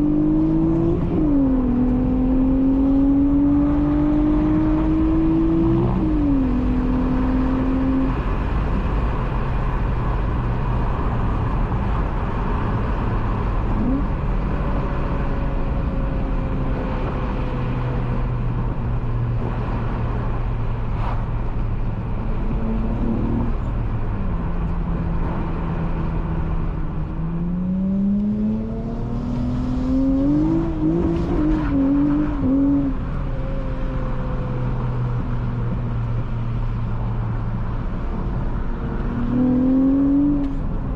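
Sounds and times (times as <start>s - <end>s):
car engine driving: 0.0s - 40.9s.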